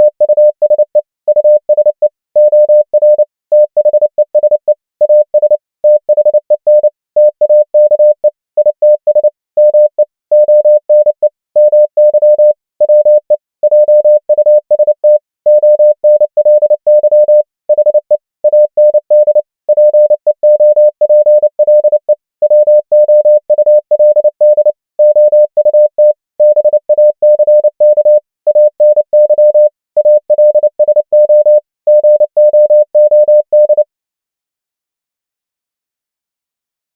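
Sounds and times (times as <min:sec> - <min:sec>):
morse code beeps: 0:00.0 - 0:33.9.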